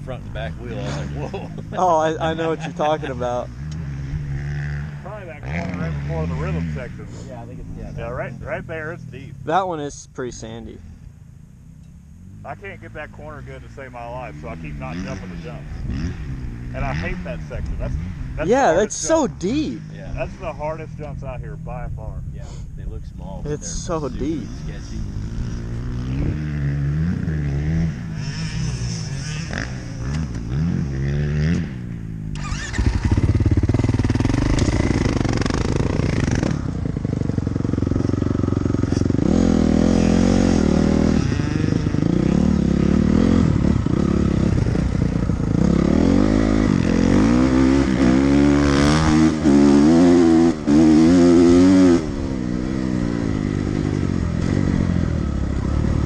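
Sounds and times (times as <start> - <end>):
dirt bike engine revving: 0.0 - 10.9, 12.2 - 21.7, 23.5 - 56.0.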